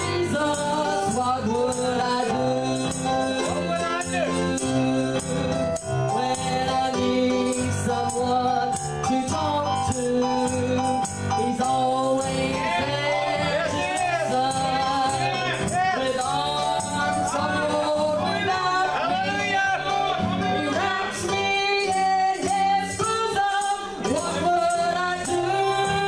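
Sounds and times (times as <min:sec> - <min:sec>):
woman singing gospel song: 0:00.0 - 0:19.2, 0:20.4 - 0:26.0.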